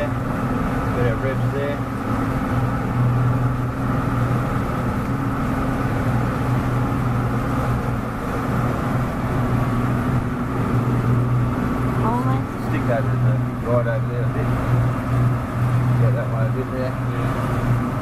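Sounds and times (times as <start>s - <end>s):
motorboat engine running: 0.0s - 18.0s
wind: 0.0s - 18.0s.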